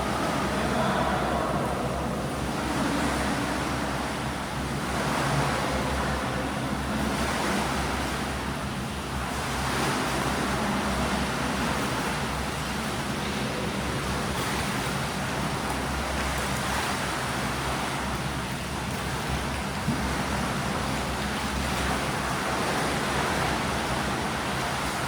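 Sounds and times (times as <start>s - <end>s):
steady low hum: 0.0s - 25.0s
water rushing and splashing: 0.0s - 25.0s.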